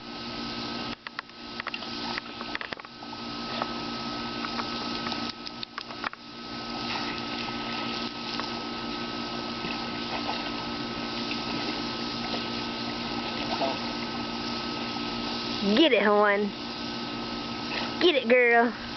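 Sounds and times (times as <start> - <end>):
hose water spraying: 0.0 - 18.9
low machine hum: 0.0 - 18.9.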